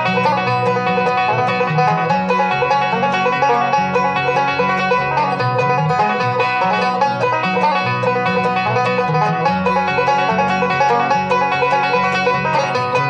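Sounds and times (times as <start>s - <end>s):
banjo picking quick runs: 0.0s - 13.0s
bass notes: 0.0s - 13.0s
guitar: 0.0s - 13.0s.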